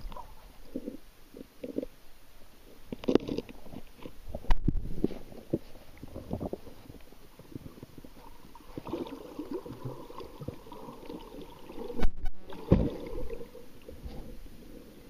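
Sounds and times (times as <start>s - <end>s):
underwater water sloshing and gurgling: 0.0s - 15.0s.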